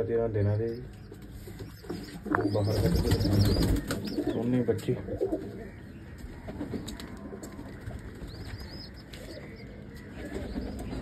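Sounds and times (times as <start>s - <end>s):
pigeons cooing: 1.4s - 11.0s.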